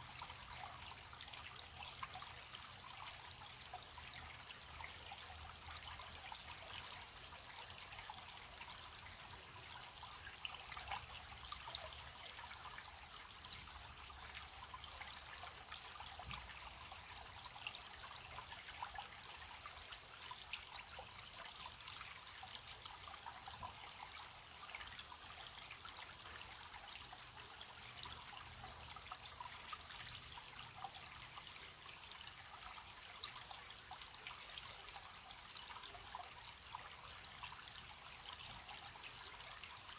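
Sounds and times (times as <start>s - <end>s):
crickets chirping: 0.0s - 39.9s
stream trickling: 0.0s - 39.9s.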